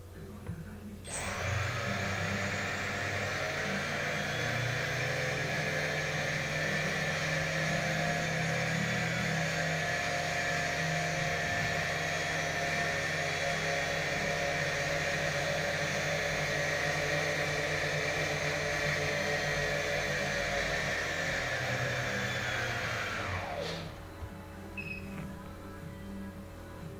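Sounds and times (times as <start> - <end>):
quadcopter motors whirring: 1.1 - 24.0.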